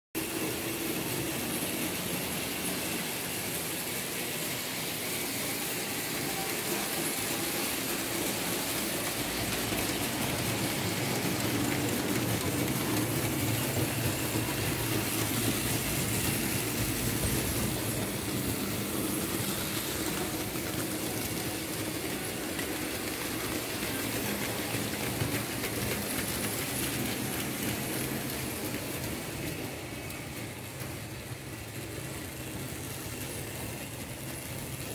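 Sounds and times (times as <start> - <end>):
model train motor hum: 0.2 - 34.9
small wheels clicking on rails: 0.2 - 34.9.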